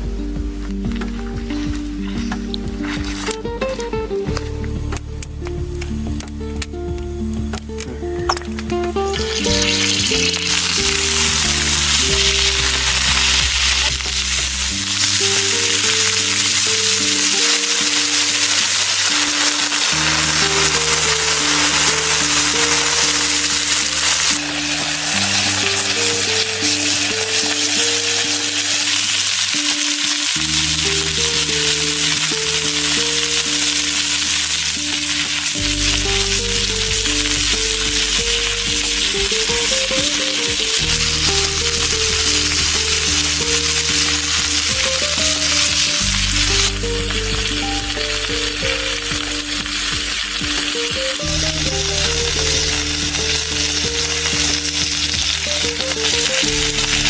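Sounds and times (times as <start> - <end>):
food sizzling in a pan: 0.0 - 5.2, 7.8 - 57.0
slow sustained chords music: 0.0 - 57.0.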